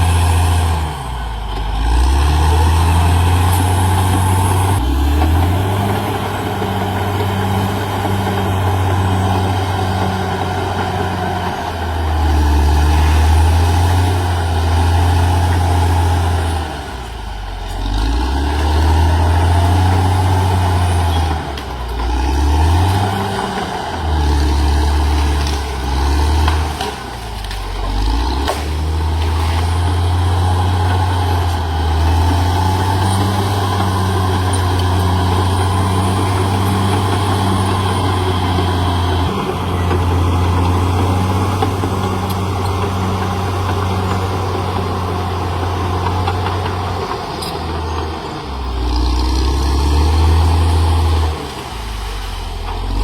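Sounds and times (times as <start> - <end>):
bulldozer diesel engine under load: 0.0 - 53.0.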